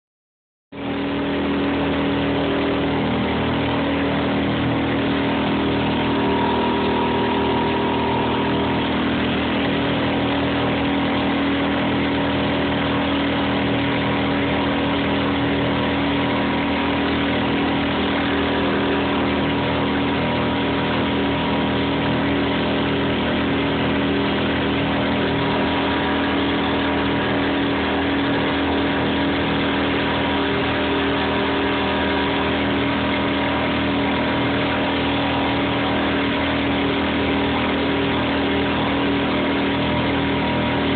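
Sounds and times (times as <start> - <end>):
outboard motor running: 0.7 - 40.9.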